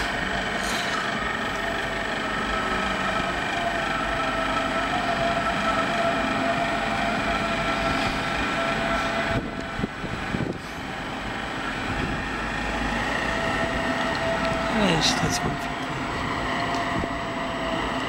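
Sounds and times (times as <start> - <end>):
electric train traction whine: 0.0 - 18.0
rail running noise: 0.0 - 18.0.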